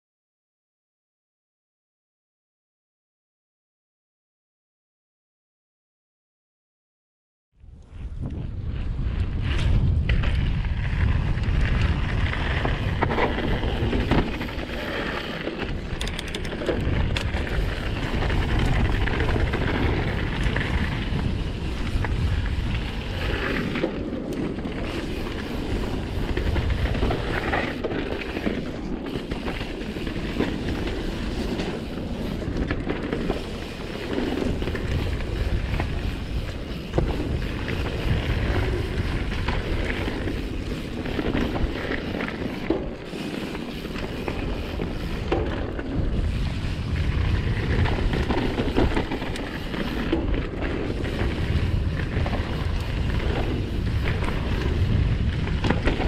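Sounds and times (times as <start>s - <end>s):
wind buffeting microphone: 7.6s - 56.0s
bike rattling over bumps: 8.3s - 56.0s.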